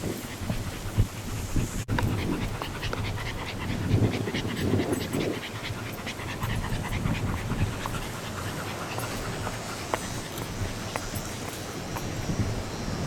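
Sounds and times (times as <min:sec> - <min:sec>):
small dog panting: 0:00.0 - 0:12.6.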